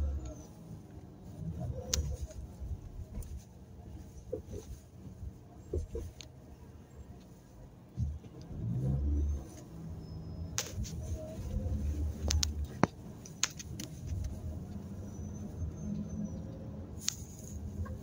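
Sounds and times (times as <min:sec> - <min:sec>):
car engine rumble: 0:00.0 - 0:18.0.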